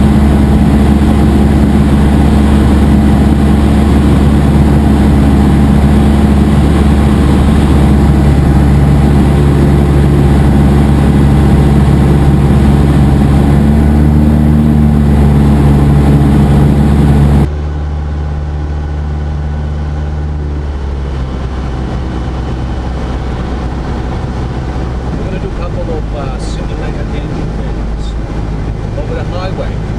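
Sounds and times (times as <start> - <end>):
airplane engine and propeller droning: 0.0 - 29.9.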